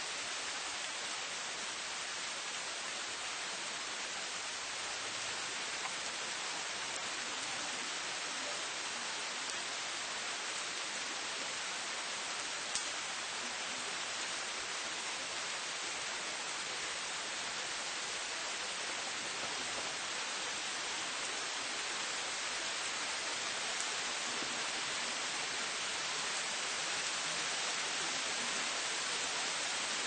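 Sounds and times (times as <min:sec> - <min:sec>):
steady rain on streets: 0:00.0 - 0:30.0.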